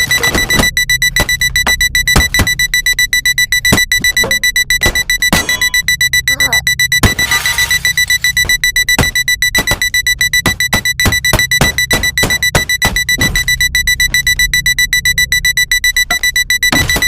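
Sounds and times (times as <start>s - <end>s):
alarm clock beeping rapidly: 0.0s - 17.0s
irregular thumps: 0.0s - 17.0s
music: 0.0s - 17.0s.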